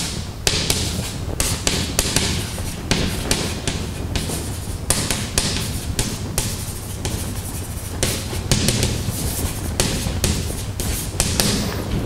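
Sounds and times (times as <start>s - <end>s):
chalk tapping on blackboard: 0.0s - 11.8s.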